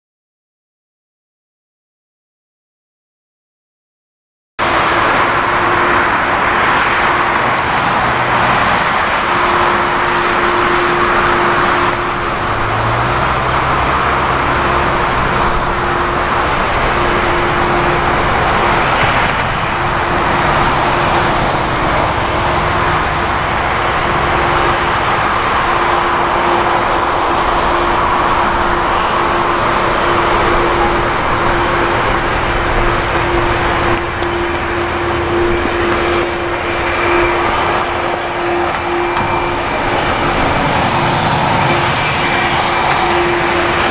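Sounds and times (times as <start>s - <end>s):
jet engine hiss: 4.6s - 43.9s
jet engine whine: 4.6s - 43.9s
low tone: 4.6s - 43.9s.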